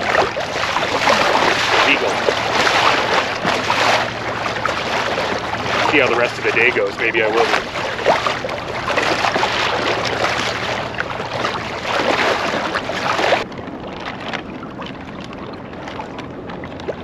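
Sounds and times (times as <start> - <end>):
water splashing against kayak hull: 0.0 - 17.0.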